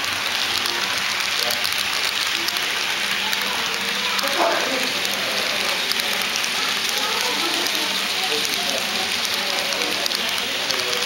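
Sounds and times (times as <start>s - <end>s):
model train wheels hissing on rails: 0.0s - 11.0s
rapid ticking: 0.0s - 11.0s.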